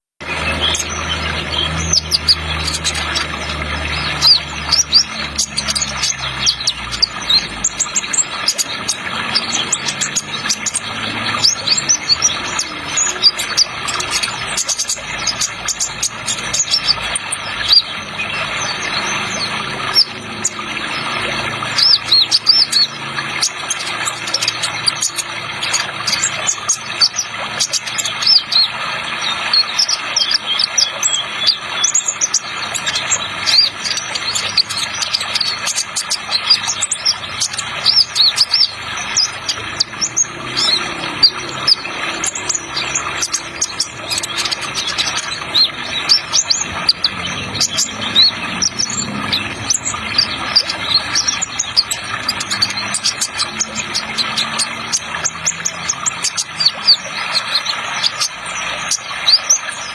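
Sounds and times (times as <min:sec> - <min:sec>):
bird chirping and trilling: 0:00.2 - 0:59.9
running water hiss: 0:00.3 - 0:59.9.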